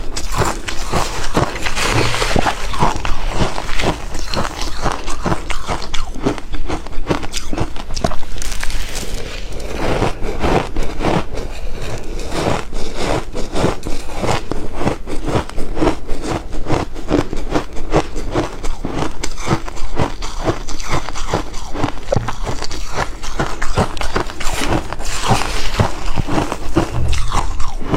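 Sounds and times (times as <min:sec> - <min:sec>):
crunching ice cubes: 0:00.0 - 0:27.9.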